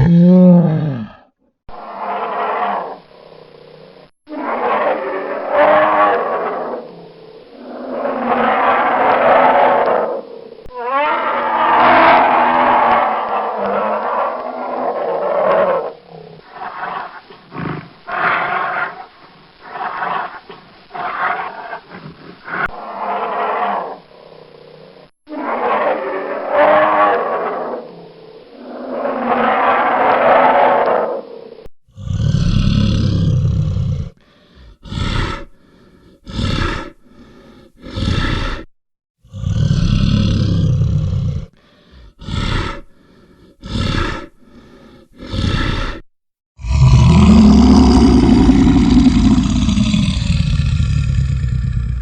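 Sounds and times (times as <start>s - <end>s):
bear roaring and growling: 0.0s - 19.0s, 19.6s - 31.3s, 31.9s - 52.0s.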